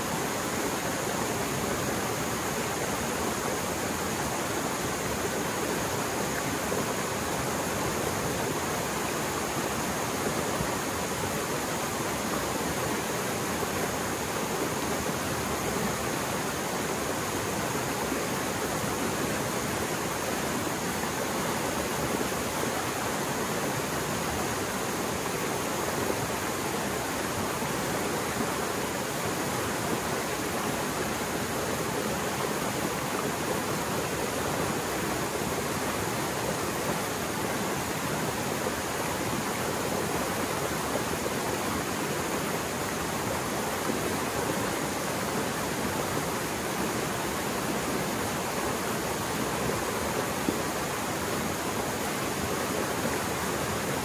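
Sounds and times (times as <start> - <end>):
mountain stream roaring: 0.0 - 54.0.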